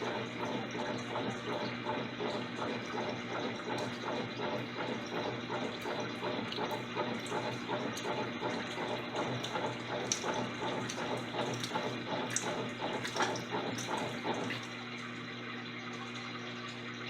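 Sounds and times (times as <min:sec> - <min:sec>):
low mechanical hum: 0:00.0 - 0:17.0
water sloshing in washing machine: 0:00.0 - 0:17.0.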